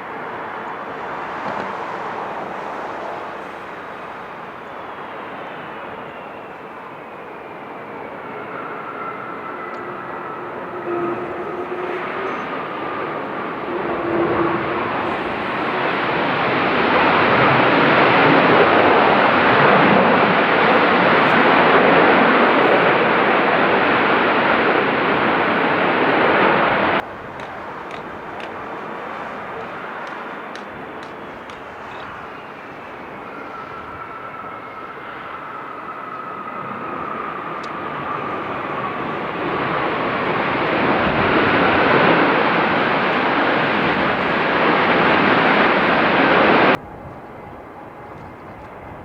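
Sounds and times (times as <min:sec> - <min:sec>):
jet airliner engines passing: 0:00.0 - 0:49.0
jet whine: 0:00.0 - 0:49.0.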